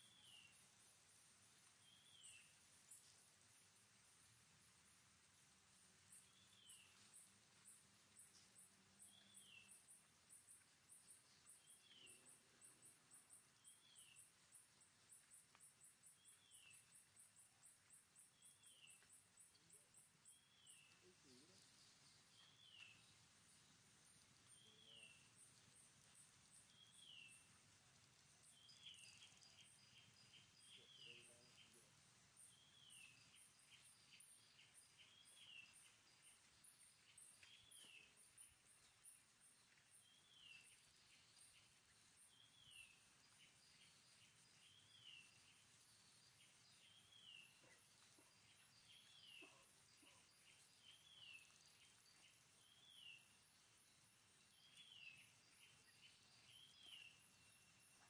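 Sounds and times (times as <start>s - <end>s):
high insect chirping: 0.0s - 58.0s.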